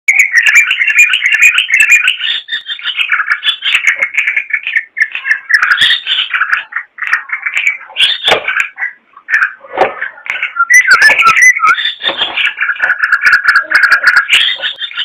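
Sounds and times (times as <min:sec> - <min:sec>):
bulbul chattering song: 0:00.1 - 0:15.0.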